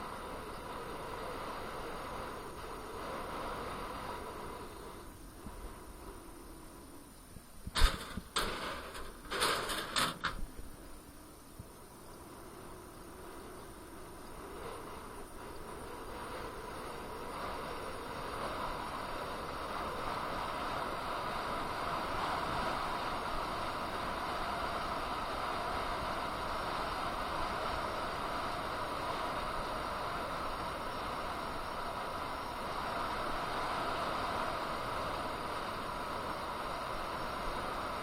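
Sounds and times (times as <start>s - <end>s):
faint steady whine: 0.0s - 38.0s
rushing wind: 0.0s - 38.0s.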